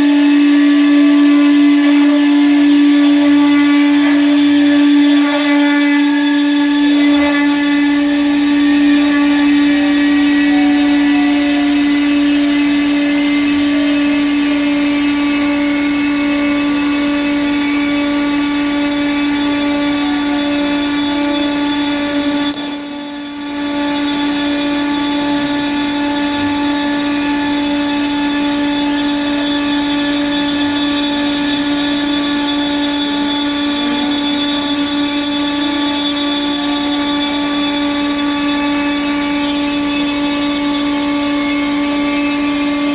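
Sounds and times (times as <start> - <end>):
router spindle high whine: 0.0 - 42.9
whines gliding in pitch: 0.0 - 42.9.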